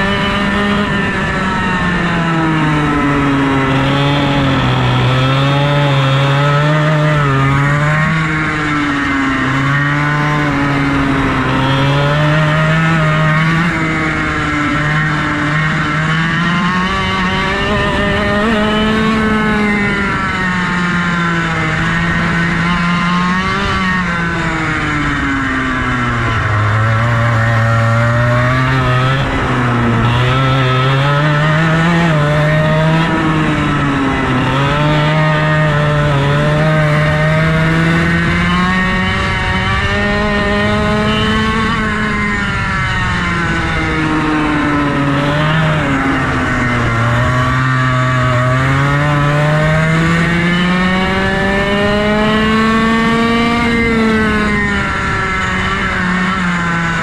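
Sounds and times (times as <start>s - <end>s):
two-stroke kart engine racing: 0.0s - 57.0s.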